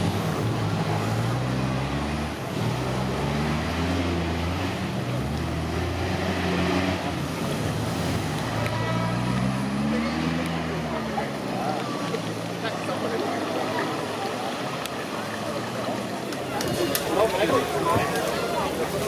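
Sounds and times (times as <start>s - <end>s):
engine revving under load: 0.0s - 18.0s.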